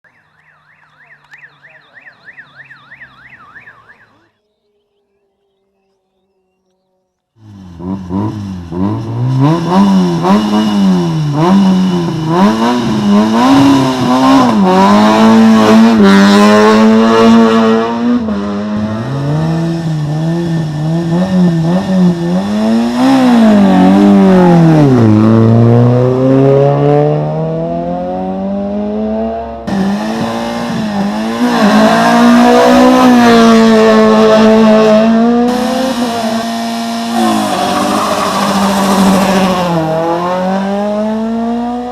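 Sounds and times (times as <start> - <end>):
another car running hard: 7.4 - 41.9
rally car engine revving: 7.4 - 41.9.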